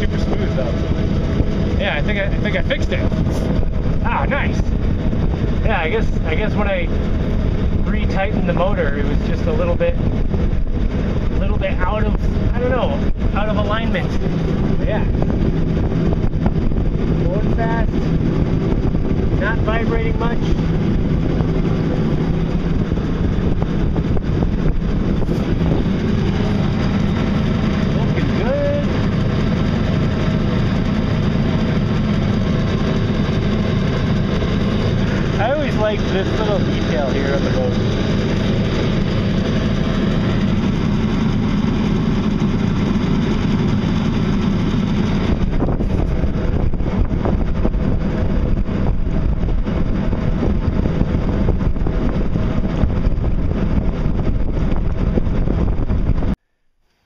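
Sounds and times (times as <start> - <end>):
wind buffeting microphone: 0.0 - 56.4
boat motor running: 0.0 - 57.0.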